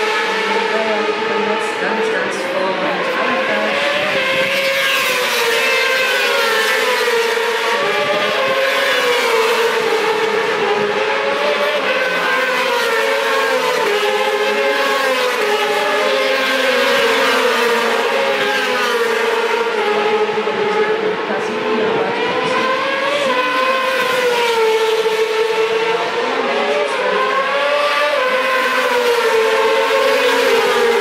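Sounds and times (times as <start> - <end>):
racing motorcycles passing: 0.0 - 31.0.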